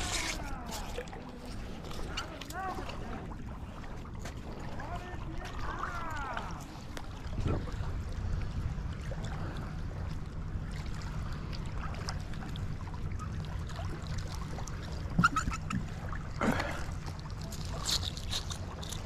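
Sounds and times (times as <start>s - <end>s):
rope hauled through water: 0.0s - 19.0s
steady low rumble: 0.0s - 19.0s.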